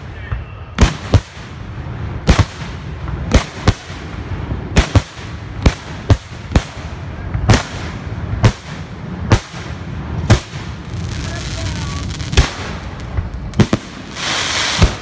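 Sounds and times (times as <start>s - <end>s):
fireworks launching bangs: 0.0s - 15.0s.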